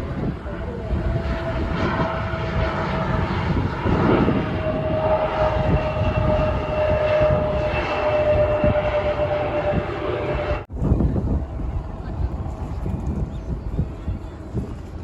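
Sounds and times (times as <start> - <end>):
airliner engines whining: 0.0 - 15.0.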